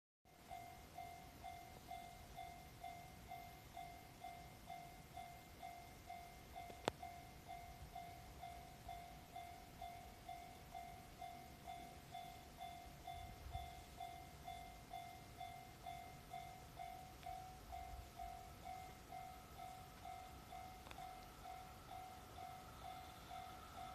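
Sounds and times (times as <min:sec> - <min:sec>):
level crossing warning bell: 0:00.3 - 0:23.9.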